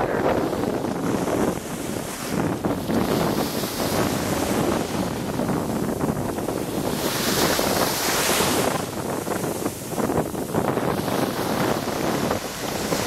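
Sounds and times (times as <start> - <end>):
small waves washing on sand: 0.0 - 13.0
wind buffeting microphone: 0.0 - 13.0.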